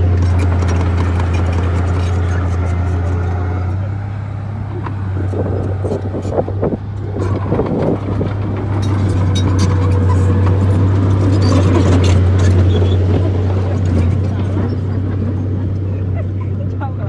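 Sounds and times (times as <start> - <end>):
bulldozer diesel engine droning: 0.0 - 17.0
tracks clanking: 0.0 - 17.0.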